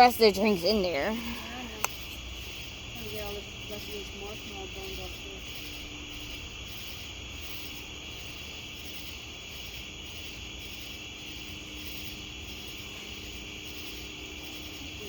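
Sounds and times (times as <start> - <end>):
insects buzzing: 0.0 - 15.0
pulsing insect call: 0.0 - 15.0.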